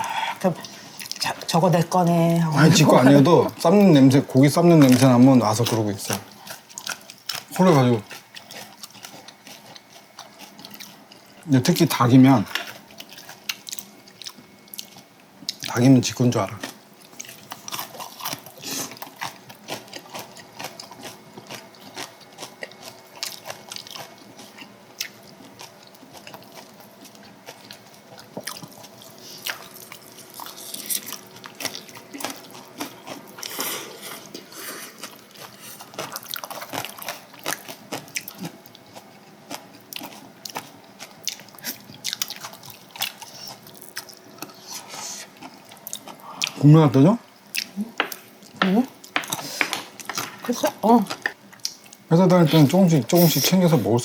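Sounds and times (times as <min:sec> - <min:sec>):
chewing and crunching: 0:00.0 - 0:54.0.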